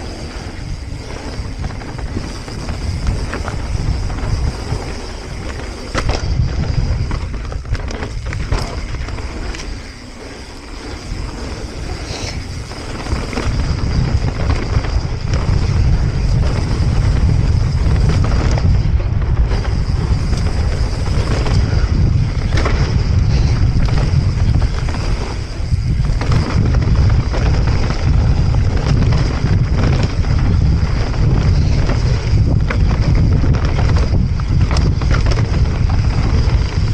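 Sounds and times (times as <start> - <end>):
bike knocks and rattles: 0.0 - 36.9
wind buffeting microphone: 0.0 - 36.9.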